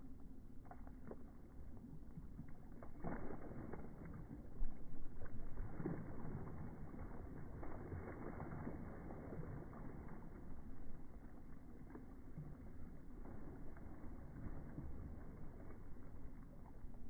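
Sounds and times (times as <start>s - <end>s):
dog splashing while swimming: 0.5s - 17.0s.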